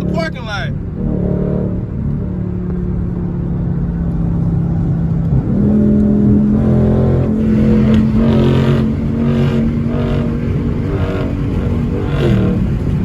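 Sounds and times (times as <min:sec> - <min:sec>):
car engine cruising: 0:00.0 - 0:13.0.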